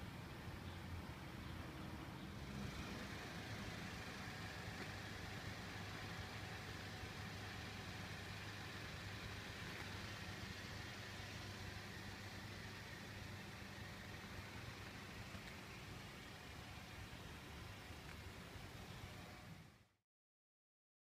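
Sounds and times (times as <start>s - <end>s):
faint outdoor background noise: 0.0s - 20.0s.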